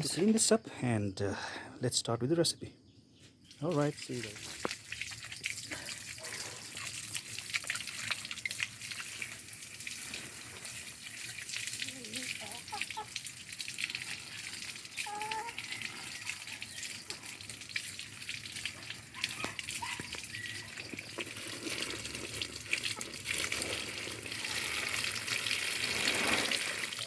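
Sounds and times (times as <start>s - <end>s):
water pouring from a tap: 3.5s - 27.0s.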